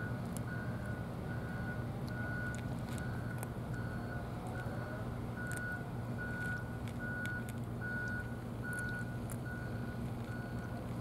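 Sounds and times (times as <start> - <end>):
low engine hum: 0.0 - 11.0
vehicle reversing alarm beeping: 0.0 - 11.0.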